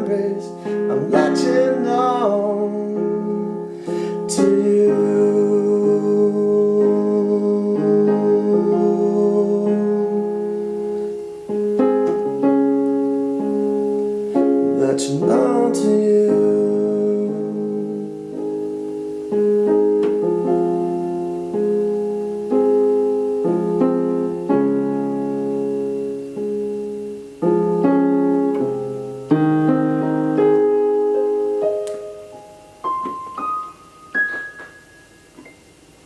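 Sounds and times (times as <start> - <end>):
solo piano chords: 0.0 - 36.0.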